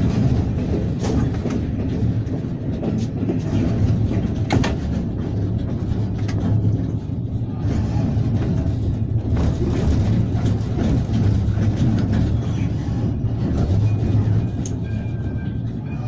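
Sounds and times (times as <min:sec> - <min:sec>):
locomotive rumble and hum: 0:00.0 - 0:16.0.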